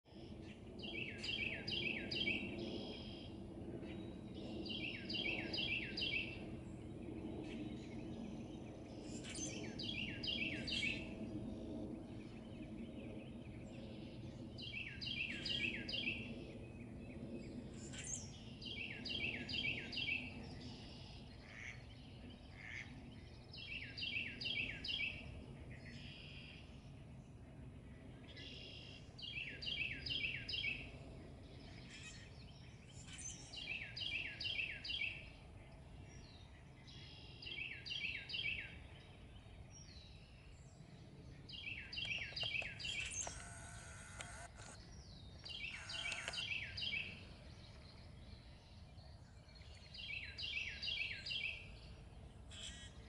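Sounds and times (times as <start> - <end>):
steady low rumble: 0.1 - 37.8, 38.6 - 53.0
songbird singing: 0.1 - 53.0.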